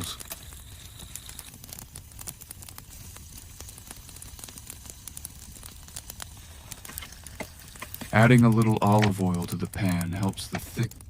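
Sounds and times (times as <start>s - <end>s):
bacon sizzling in a skillet: 0.0s - 11.0s.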